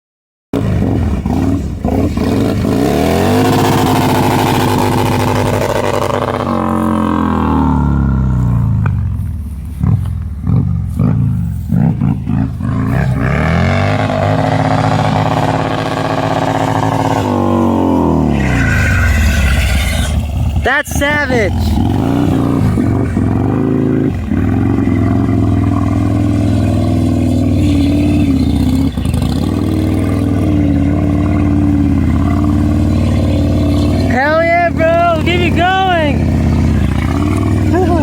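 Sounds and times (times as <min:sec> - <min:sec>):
motorcycle engine revving: 0:00.5 - 0:38.0.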